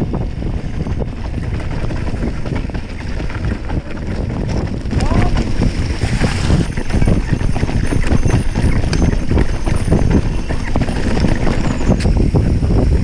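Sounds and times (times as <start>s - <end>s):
bike rattling over rocky trail: 0.0s - 12.5s
wind rumble on microphone: 0.0s - 13.0s.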